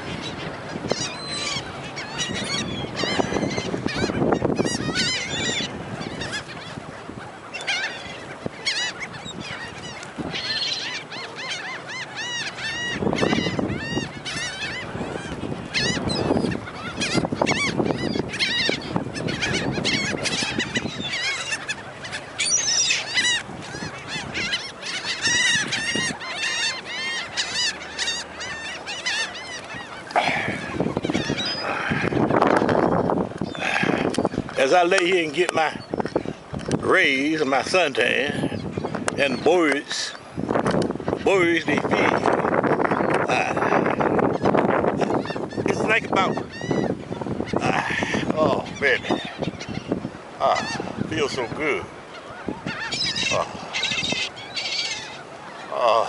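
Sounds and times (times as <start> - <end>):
gulls squawking: 0.0 - 56.0.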